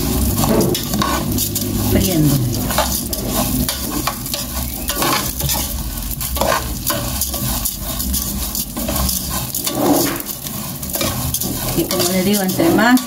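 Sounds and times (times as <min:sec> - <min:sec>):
metal spoon scraping pot: 0:00.0 - 0:13.0
noodles sizzling in oil: 0:00.0 - 0:13.0.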